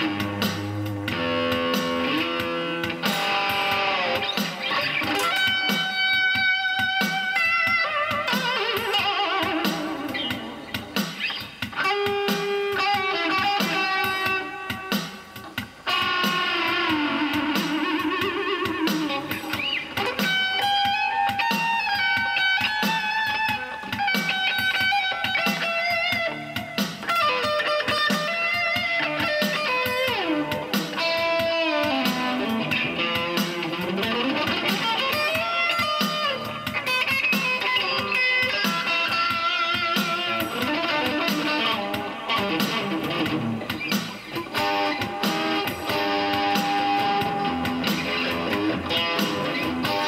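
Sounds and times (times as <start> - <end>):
electric guitar lead riffs: 0.0 - 50.0
steady shuffle beat: 0.0 - 50.0.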